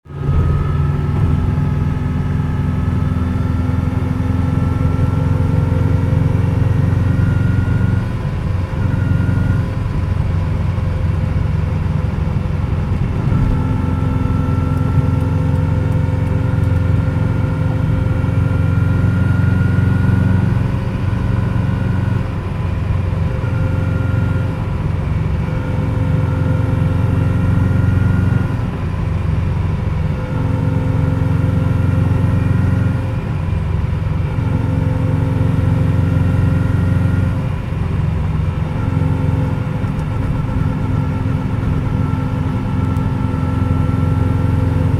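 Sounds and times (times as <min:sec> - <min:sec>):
car engine at speed: 0:00.0 - 0:44.9
road noise: 0:00.0 - 0:44.9.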